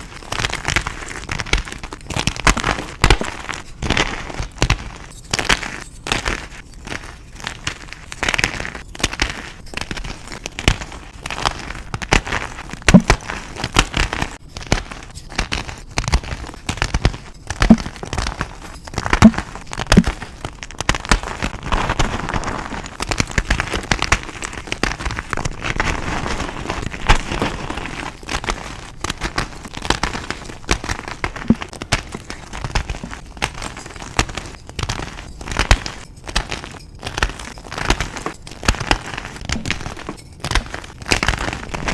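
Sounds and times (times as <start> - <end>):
chalk crackling and crunching: 0.0 - 41.9
soft grinding crumble: 0.0 - 41.9.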